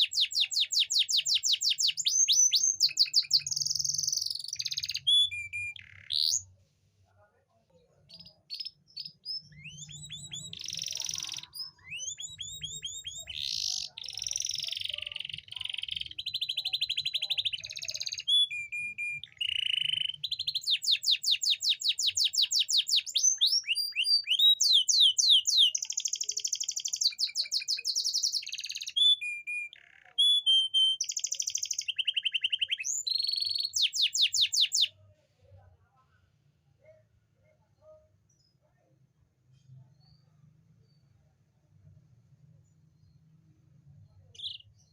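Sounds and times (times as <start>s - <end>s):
canary singing trills: 0.0s - 6.6s, 8.0s - 35.0s, 42.4s - 44.9s.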